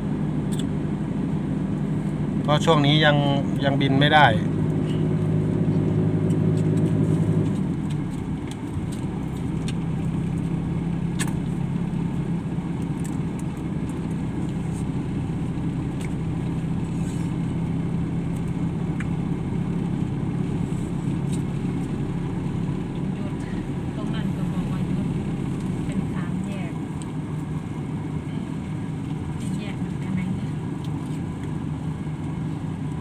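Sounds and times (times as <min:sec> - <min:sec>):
car engine from inside cabin: 0:00.0 - 0:33.0.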